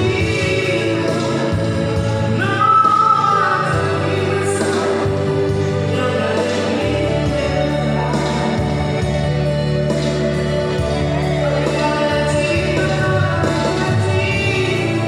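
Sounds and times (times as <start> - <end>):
man singing: 0.0 - 10.1, 10.7 - 15.0
amplified backing music: 0.0 - 15.0
woman singing: 0.0 - 15.0.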